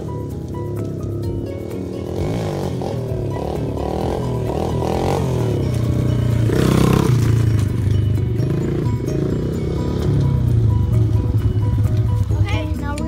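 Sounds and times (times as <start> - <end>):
pit bike engine revving: 0.0 - 12.5.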